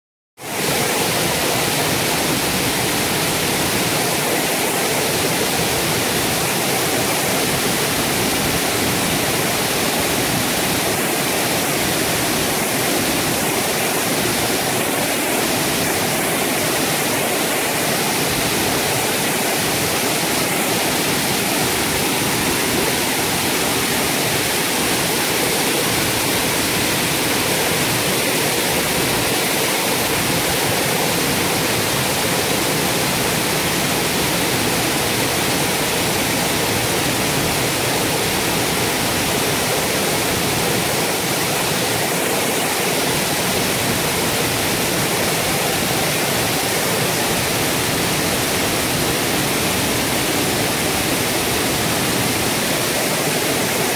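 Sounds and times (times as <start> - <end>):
waterfall rushing and splashing: 0.4 - 53.9.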